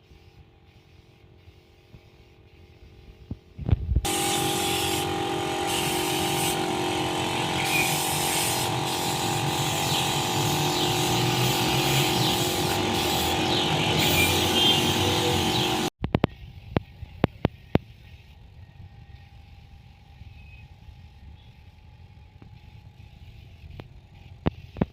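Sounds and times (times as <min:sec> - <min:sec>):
engine running steadily: 0:02.7 - 0:24.9.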